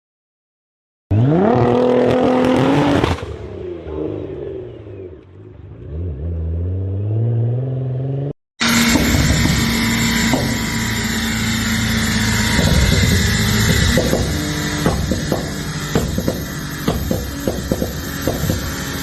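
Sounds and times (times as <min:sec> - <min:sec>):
car engine revving: 0:01.1 - 0:19.0.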